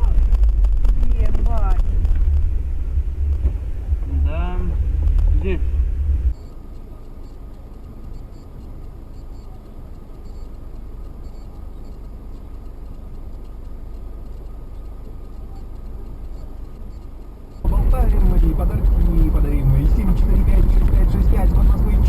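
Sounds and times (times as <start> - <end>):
car rumble inside cabin: 0.0 - 22.0
faint regular ticking: 0.0 - 22.0.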